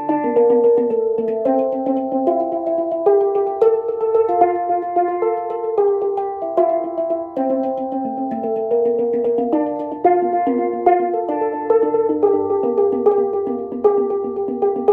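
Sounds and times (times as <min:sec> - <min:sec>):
handpan melody: 0:00.0 - 0:14.9.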